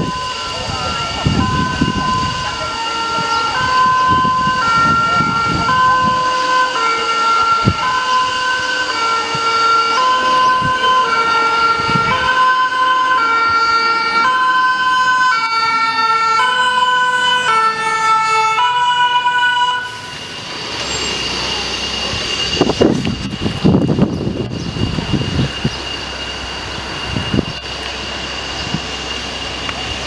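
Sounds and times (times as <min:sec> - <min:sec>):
road noise: 0:00.0 - 0:30.0
two-tone fire engine siren: 0:00.0 - 0:30.0.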